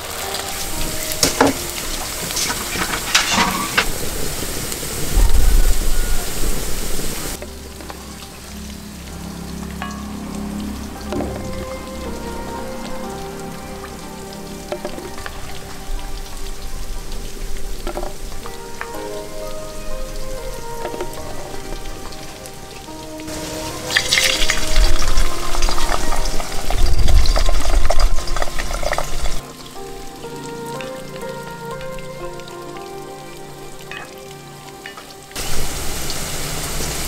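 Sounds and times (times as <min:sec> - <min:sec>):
food sizzling in hot oil: 0:00.0 - 0:37.0.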